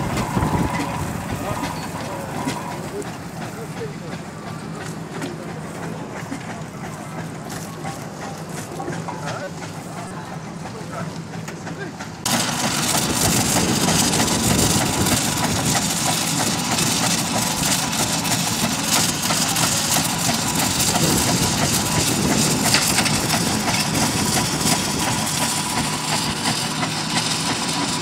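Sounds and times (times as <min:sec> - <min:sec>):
steam engine running: 0:00.0 - 0:28.0.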